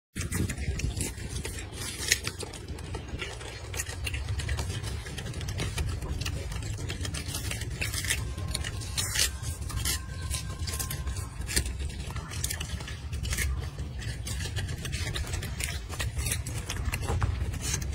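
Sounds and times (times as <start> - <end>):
monkey chewing lettuce: 0.2 - 17.9.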